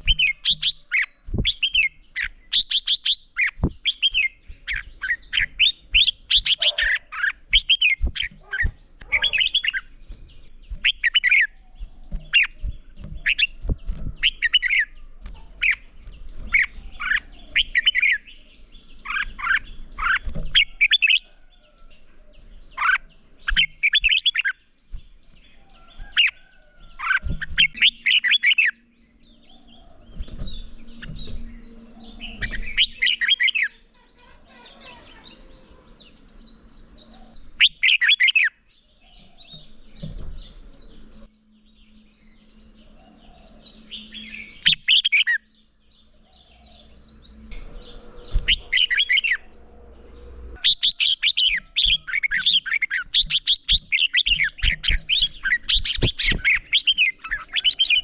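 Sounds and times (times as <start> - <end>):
bird chirping song: 0.0 - 58.0.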